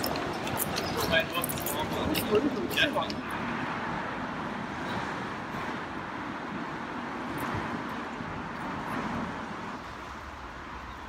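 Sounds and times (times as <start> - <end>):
distant traffic hum: 0.0 - 11.0.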